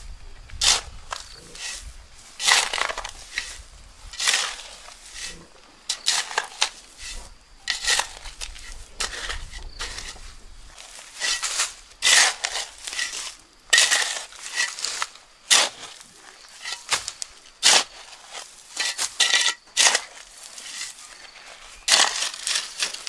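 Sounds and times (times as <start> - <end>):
metal shovel scraping gravelly soil: 0.0 - 23.0.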